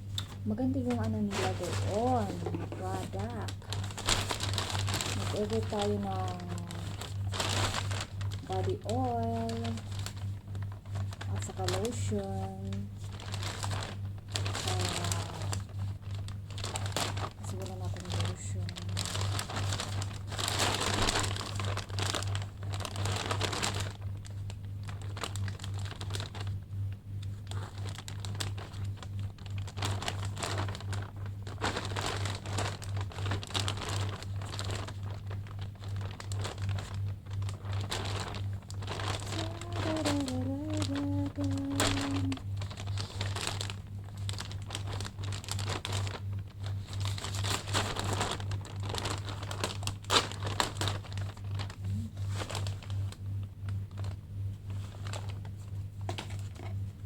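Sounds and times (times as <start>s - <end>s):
low steady hum: 0.0s - 57.0s
plastic packaging crinkling: 0.0s - 57.0s.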